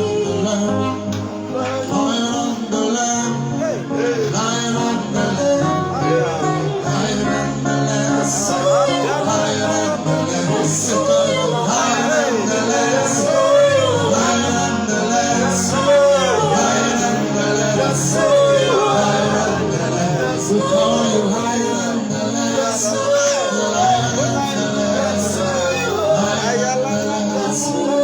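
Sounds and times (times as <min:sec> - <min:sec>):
man singing wordlessly: 0:00.0 - 0:28.0.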